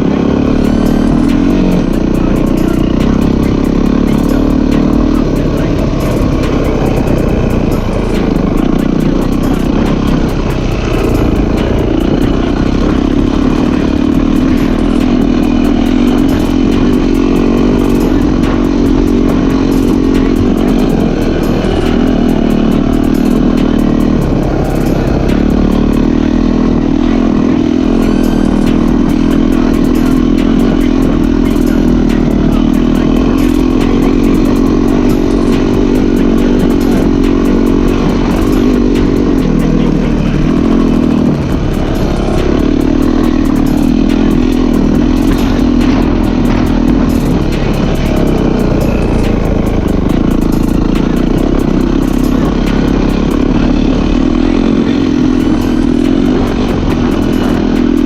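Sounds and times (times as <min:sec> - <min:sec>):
motocross bike engine running: 0:00.0 - 0:58.0.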